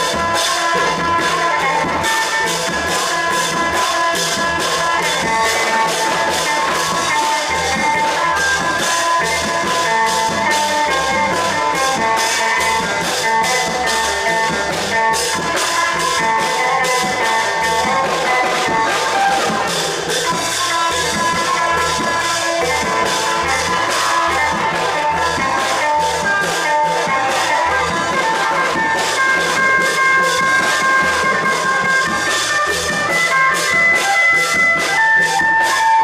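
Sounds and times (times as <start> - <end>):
drums and cymbals beat: 0.0 - 36.0.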